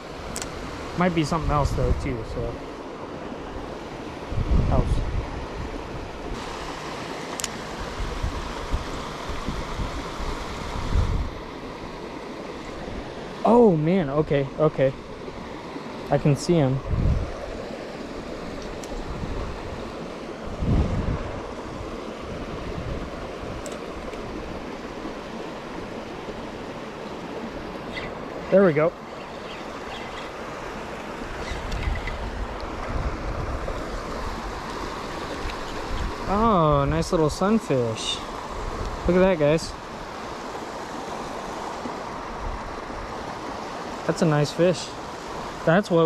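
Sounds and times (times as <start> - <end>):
water rushing over spillway: 0.0 - 46.0.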